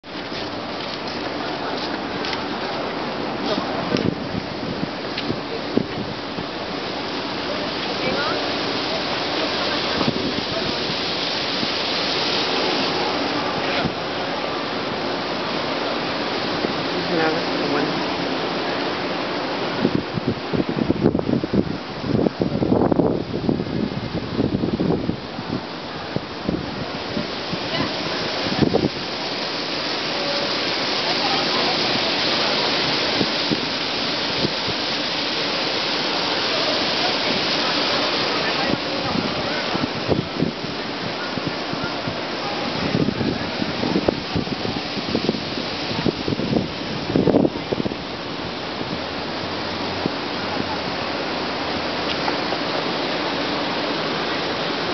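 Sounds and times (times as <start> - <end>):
fountain water splashing into basin: 0.0 - 54.9.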